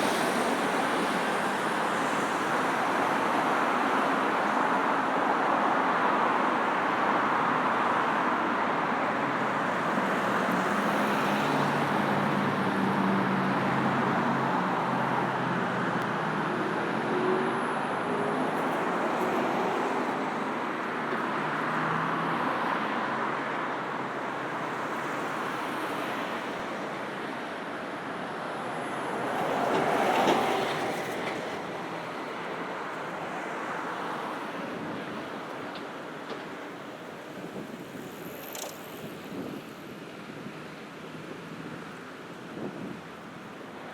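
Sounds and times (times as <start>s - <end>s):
road traffic rushing past: 5.8s - 43.9s.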